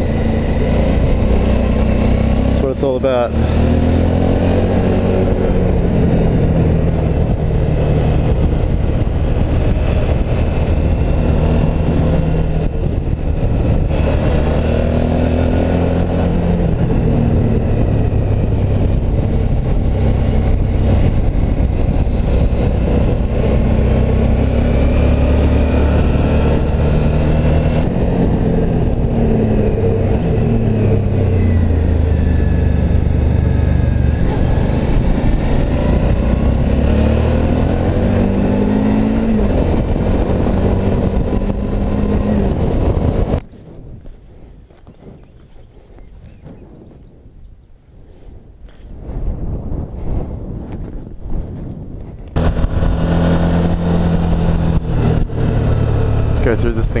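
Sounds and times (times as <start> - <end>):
motorcycle engine revving: 0.0 - 43.6, 52.2 - 57.0.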